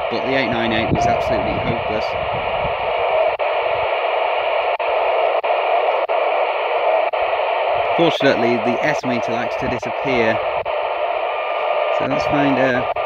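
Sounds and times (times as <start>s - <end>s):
radio receiver hiss: 0.0s - 13.0s
thin steady whistle: 0.0s - 13.0s.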